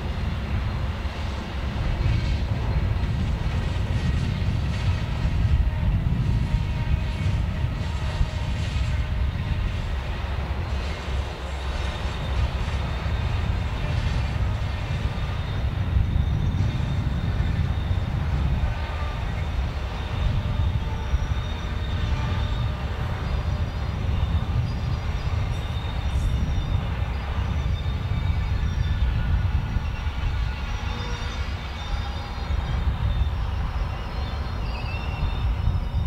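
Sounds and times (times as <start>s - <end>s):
passenger train passing: 0.0s - 36.0s.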